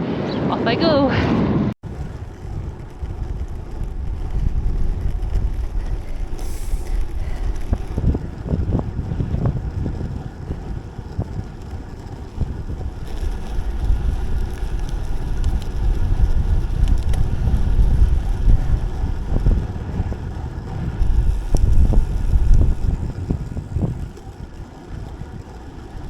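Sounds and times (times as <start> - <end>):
rolling road noise: 0.0 - 26.0
wind buffeting microphone: 0.0 - 26.0.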